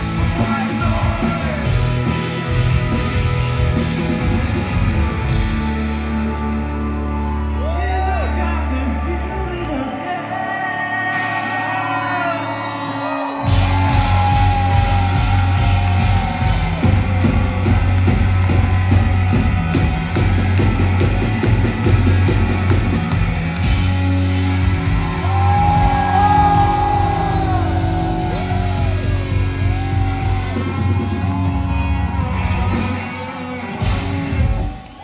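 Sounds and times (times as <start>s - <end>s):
drums: 0.0s - 8.3s, 13.4s - 35.0s
rock band playing live: 0.0s - 9.0s, 10.1s - 35.0s.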